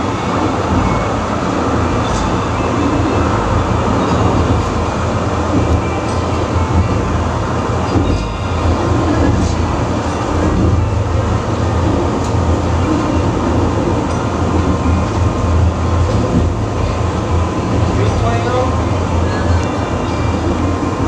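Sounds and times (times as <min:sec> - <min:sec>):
funicular wheels rumbling on track: 0:00.0 - 0:21.0.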